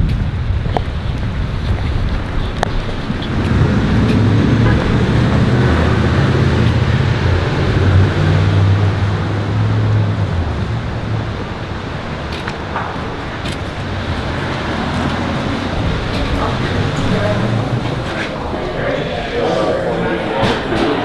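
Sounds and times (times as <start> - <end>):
road noise: 0.0 - 21.0
vehicle engine humming: 0.0 - 21.0.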